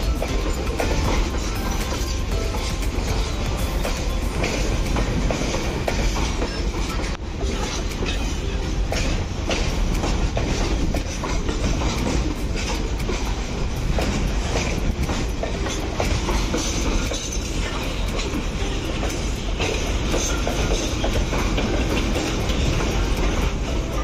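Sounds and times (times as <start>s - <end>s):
train rumbling on track: 0.0s - 24.0s
wheels clicking over rail joints: 0.0s - 24.0s.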